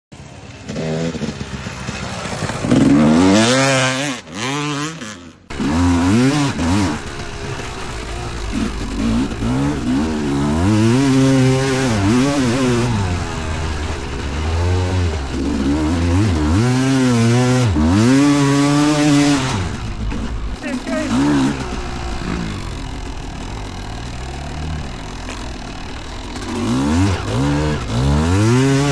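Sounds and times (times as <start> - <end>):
motocross bike engine revving: 0.2 - 28.9.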